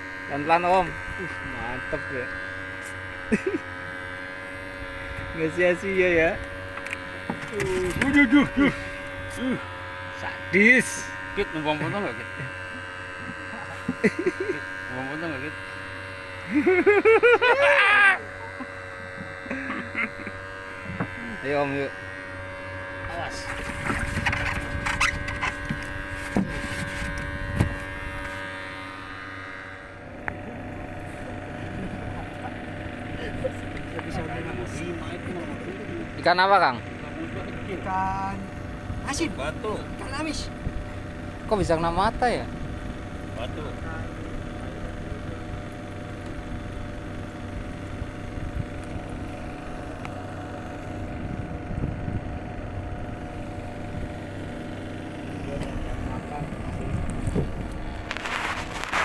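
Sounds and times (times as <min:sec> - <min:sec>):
boat engine buzzing hum: 0:00.0 - 0:59.0.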